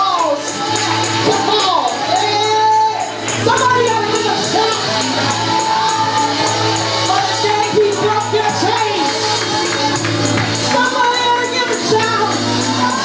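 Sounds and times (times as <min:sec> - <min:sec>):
people singing gospel: 0:00.0 - 0:13.0
percussion beat: 0:00.0 - 0:13.0.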